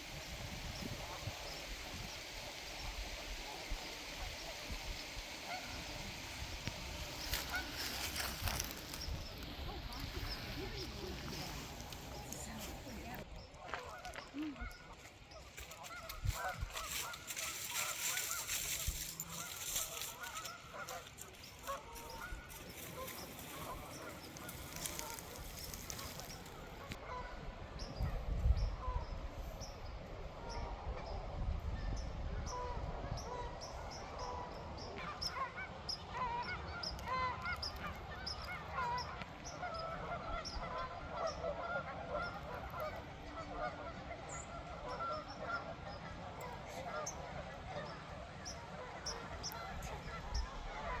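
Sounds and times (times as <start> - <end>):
flock of ducks calling: 0.0 - 27.8, 32.4 - 51.0.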